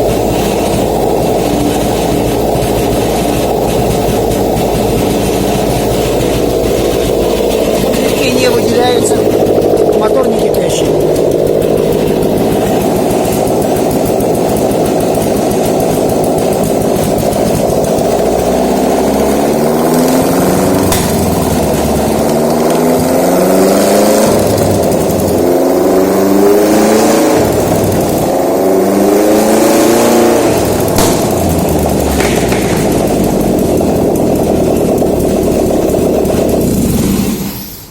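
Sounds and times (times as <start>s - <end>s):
engine idling and revving: 0.0s - 37.9s.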